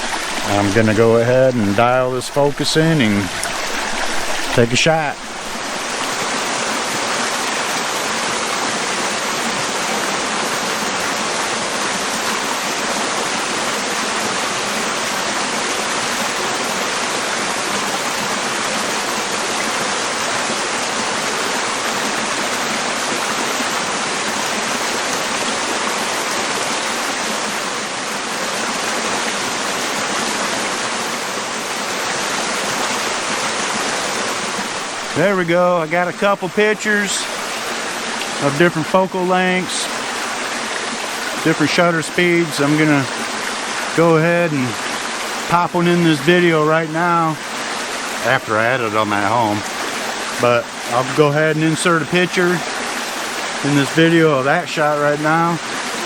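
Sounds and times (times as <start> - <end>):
water rushing over creek waterfalls: 0.0 - 56.0.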